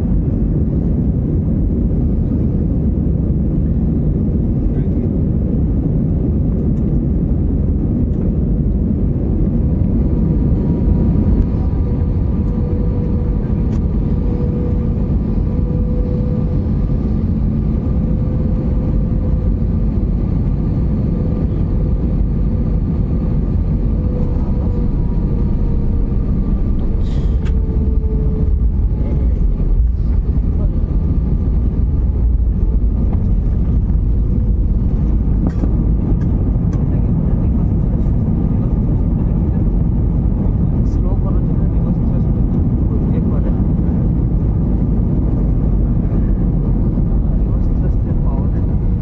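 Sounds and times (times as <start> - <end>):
airliner cabin engine rumble: 0.0 - 49.0.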